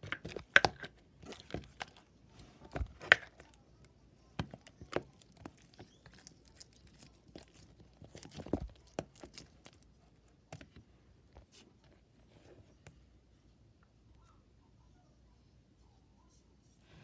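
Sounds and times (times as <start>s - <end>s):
crackles and rustling of handling: 0.0s - 14.4s.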